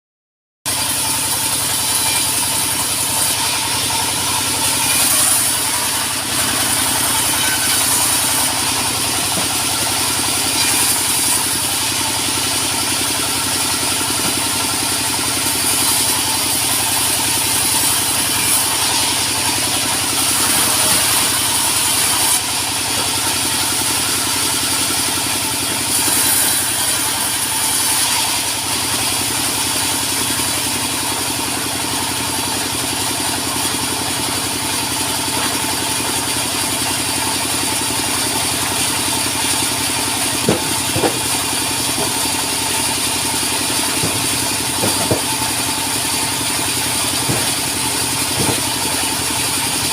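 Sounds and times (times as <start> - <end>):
sawmill machinery drone: 0.7 - 49.9.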